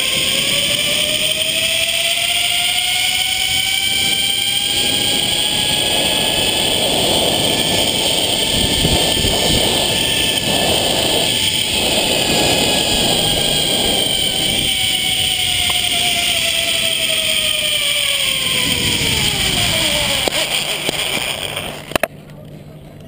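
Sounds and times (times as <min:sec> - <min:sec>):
wind on microphone: 0:00.0 - 0:22.1
zipline pulleys whining on cable: 0:00.0 - 0:22.1.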